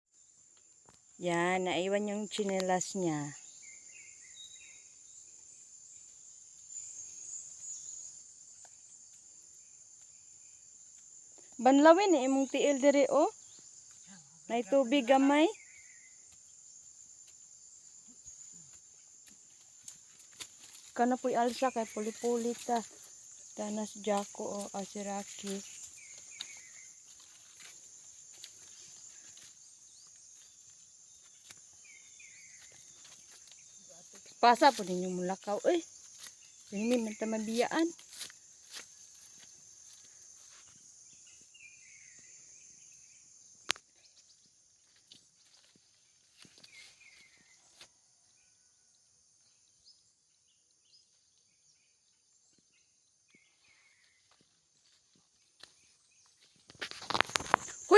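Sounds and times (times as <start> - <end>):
high-pitched insect chorus: 0.1 - 57.9.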